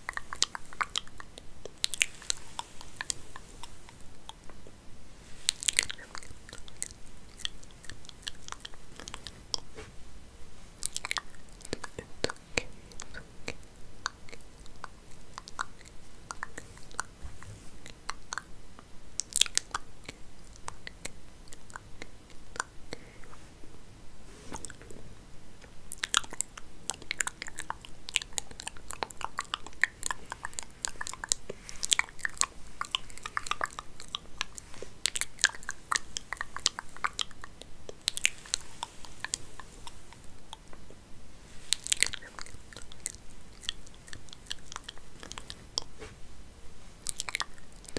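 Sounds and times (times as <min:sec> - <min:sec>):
crackling and scratching: 0:00.0 - 0:47.9.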